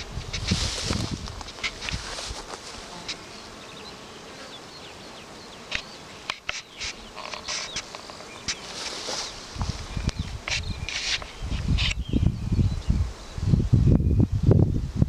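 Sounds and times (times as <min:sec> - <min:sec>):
bees buzzing: 0:00.0 - 0:13.8.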